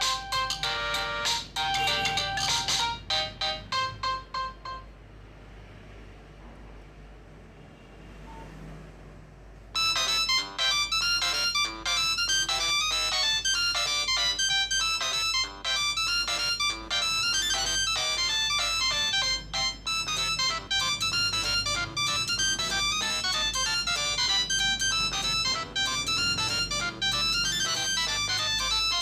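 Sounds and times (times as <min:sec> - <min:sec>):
polyphonic ringtone melody: 0:00.0 - 0:05.0, 0:09.8 - 0:29.0.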